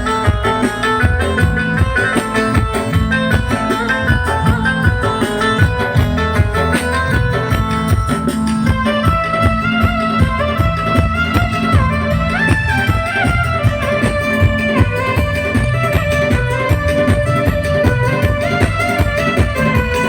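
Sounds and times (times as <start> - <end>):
sliding melodic lead line: 0.0 - 20.0
steady drum beat: 0.0 - 20.0.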